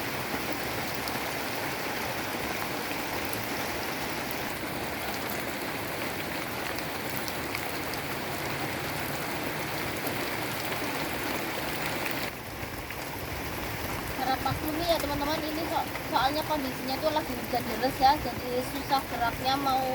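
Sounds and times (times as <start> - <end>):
heavy rain downpour: 0.0 - 19.9.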